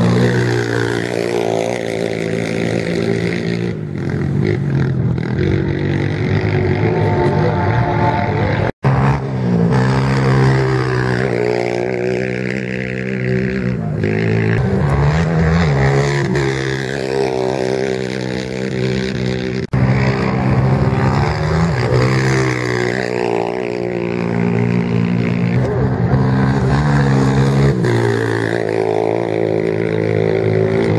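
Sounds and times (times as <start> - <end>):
quad engines revving: 0.0 - 30.9.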